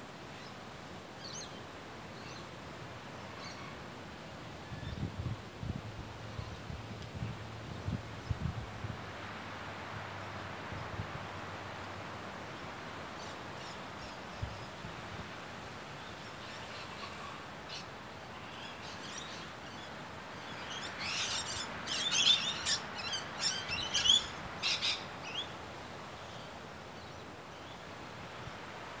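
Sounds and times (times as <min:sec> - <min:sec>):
outdoor hiss: 0:00.0 - 0:29.0.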